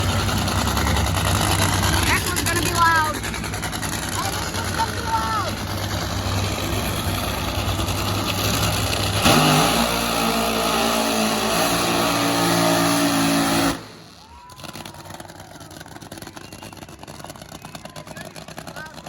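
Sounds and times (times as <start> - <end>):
drag racing car engine revving: 0.0 - 19.0.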